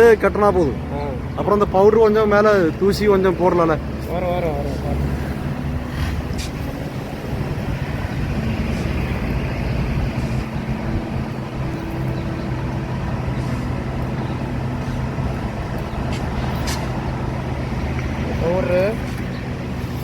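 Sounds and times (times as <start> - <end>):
engine low drone: 0.0 - 20.0.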